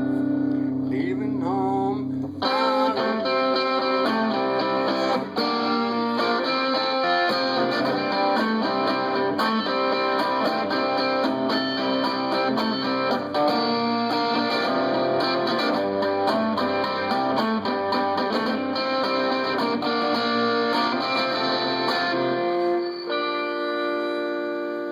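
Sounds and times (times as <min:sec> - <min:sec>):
guitar playing: 0:00.0 - 0:24.9.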